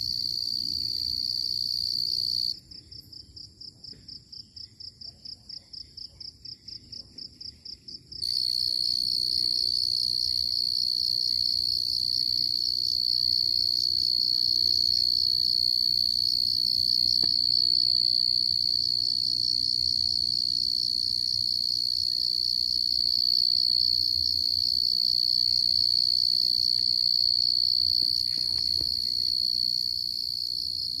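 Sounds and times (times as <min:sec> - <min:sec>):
crickets pulsed chirping: 0:00.0 - 0:31.0
high-pitched cricket trill: 0:00.0 - 0:31.0.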